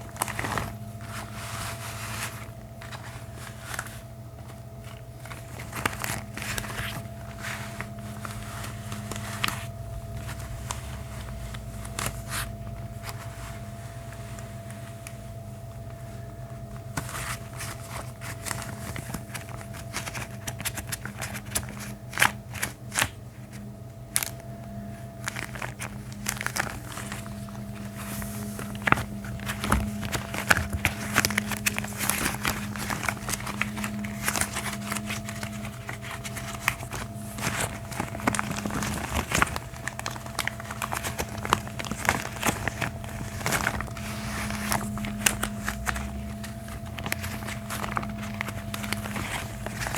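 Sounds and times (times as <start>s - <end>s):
gloves crinkling: 0.0s - 49.9s
steady low hum: 0.0s - 49.9s.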